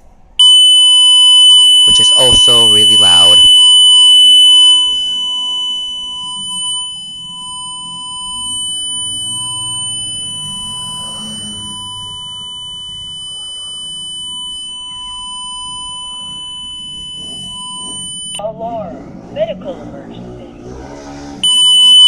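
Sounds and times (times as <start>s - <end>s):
high-pitched electronic alarm tone: 0.4s - 18.5s, 21.0s - 22.0s.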